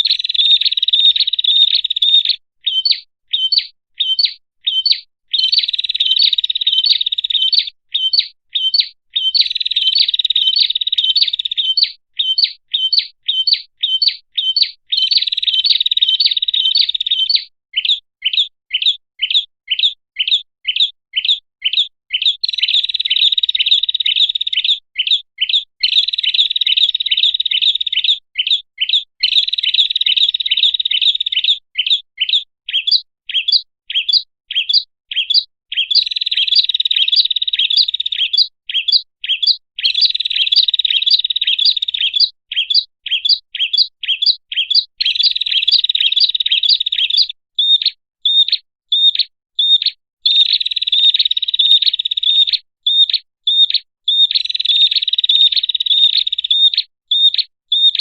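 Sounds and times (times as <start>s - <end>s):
fast bird trilling: 0.0s - 58.0s
sharp high bird chirps: 0.0s - 58.0s.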